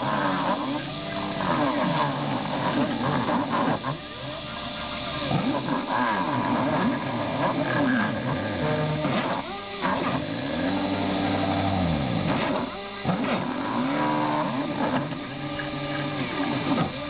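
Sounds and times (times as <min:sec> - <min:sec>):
cutter engraving wood: 0:00.0 - 0:17.0
spindle motor running: 0:00.0 - 0:17.0
stepper motors whining: 0:00.0 - 0:17.0.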